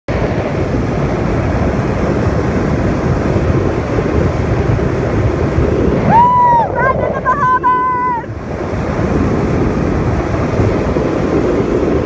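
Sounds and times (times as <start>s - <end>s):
jet ski engine: 0.1s - 12.0s
water noise against hull: 0.1s - 12.0s
wind rush on microphone: 0.1s - 12.0s.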